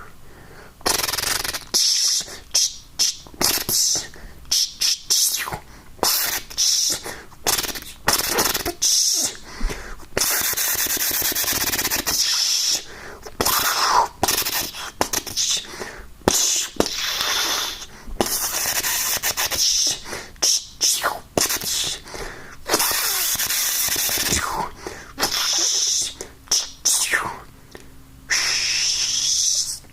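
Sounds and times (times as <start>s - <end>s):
person imitating lightsaber sounds: 0.8s - 9.4s, 10.2s - 15.7s, 16.3s - 22.0s, 22.6s - 27.5s, 28.3s - 29.9s.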